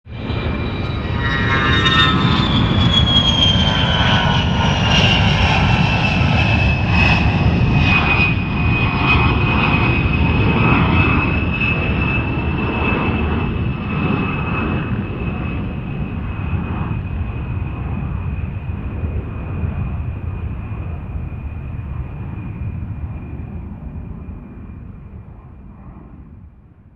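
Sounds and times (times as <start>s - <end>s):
jet engine rumble and whine: 0.1s - 26.9s.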